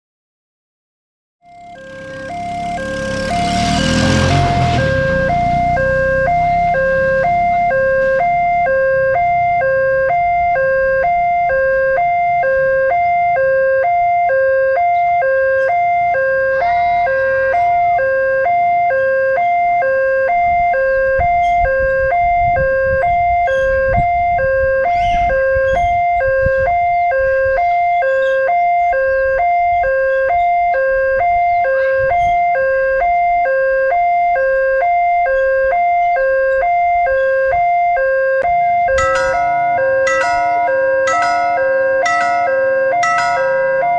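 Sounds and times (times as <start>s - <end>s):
level-crossing two-tone alarm: 1.5s - 43.9s.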